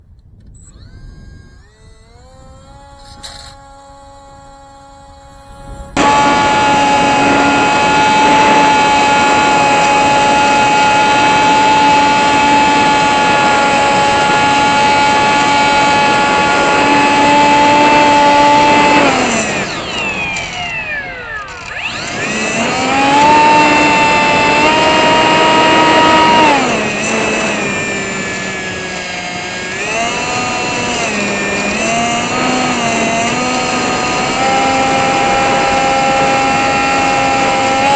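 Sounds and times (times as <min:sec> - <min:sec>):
electric motor whine: 0:00.3 - 0:37.9.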